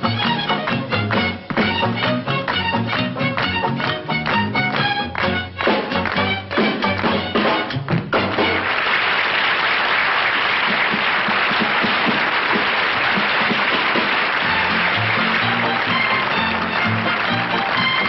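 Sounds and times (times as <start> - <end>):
country dance band playing: 0.0 - 9.0, 10.6 - 18.0
crowd applauding: 0.0 - 18.0.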